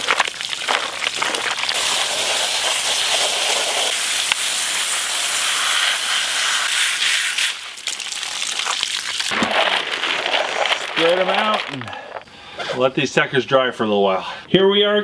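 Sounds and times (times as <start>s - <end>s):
hose spraying water on nuts: 0.0s - 12.2s.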